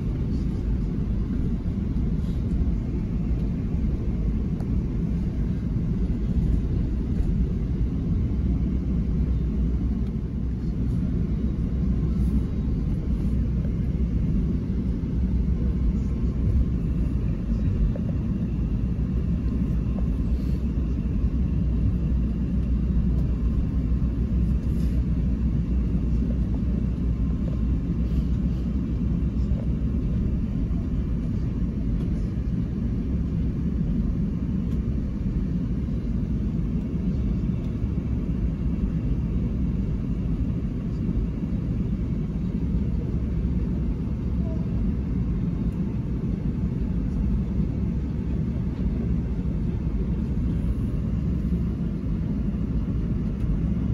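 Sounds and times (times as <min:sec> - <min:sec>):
low rumble in aircraft cabin: 0:00.0 - 0:53.9.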